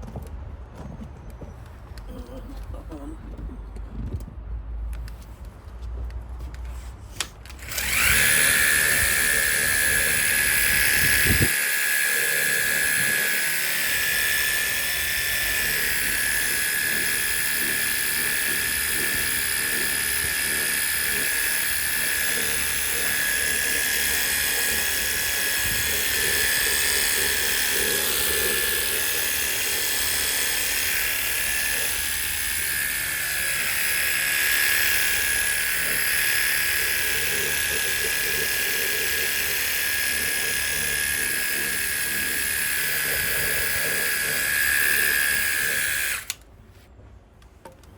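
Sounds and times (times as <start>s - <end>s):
pump motor whine: 7.4s - 46.4s.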